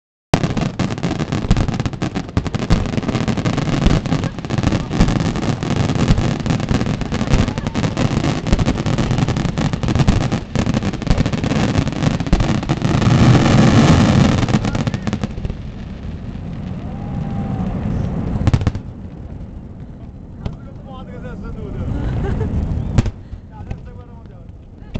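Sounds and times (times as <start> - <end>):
fireworks exploding: 0.4 - 20.6, 22.0 - 24.9.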